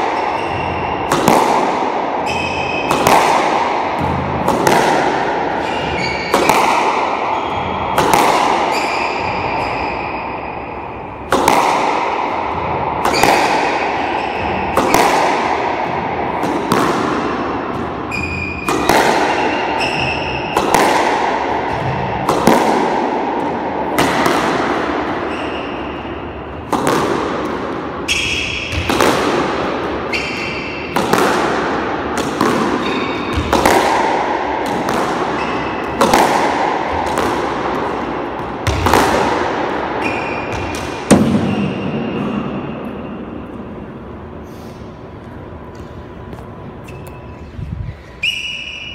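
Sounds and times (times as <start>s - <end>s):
squash ball cracking off racket: 0.0s - 9.8s, 11.2s - 42.6s.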